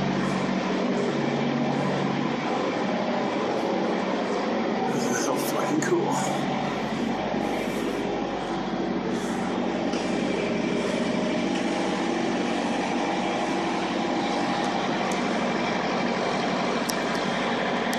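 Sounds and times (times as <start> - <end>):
vehicle engine and tyre noise: 0.0 - 17.9.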